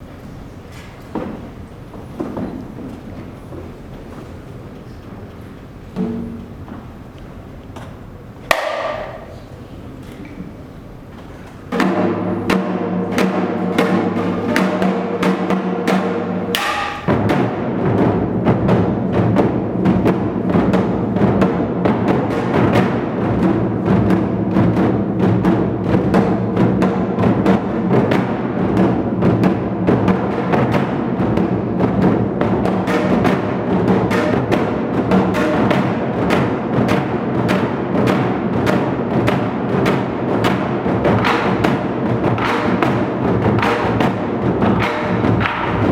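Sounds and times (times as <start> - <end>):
barrel drums played with sticks: 5.7 - 45.9.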